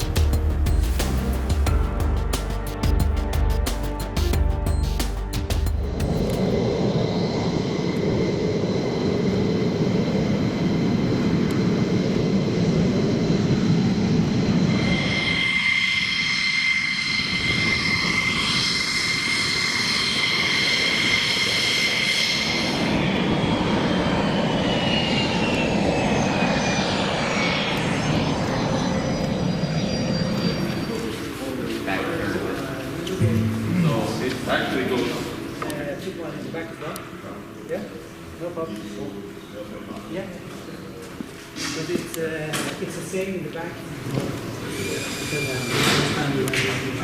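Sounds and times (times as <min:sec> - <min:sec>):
jet engine rushing: 0:00.0 - 0:36.7, 0:43.8 - 0:47.0
jet engine high whine: 0:00.0 - 0:47.0.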